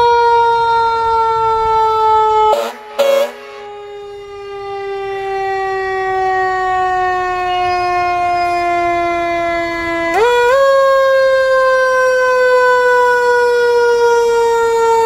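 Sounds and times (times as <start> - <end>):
fire engine siren: 0.0 - 15.0.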